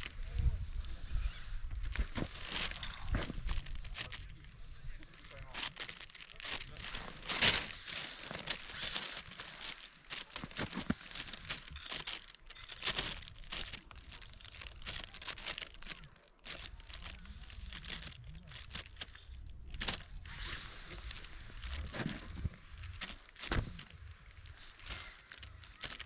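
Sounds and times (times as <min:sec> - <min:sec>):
crinkling and rustling: 0:00.0 - 0:26.0.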